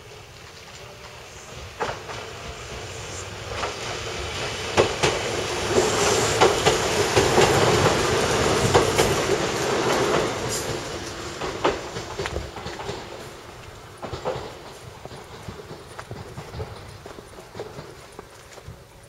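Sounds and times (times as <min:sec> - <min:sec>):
train wheels clacking over joints: 0:00.0 - 0:19.0.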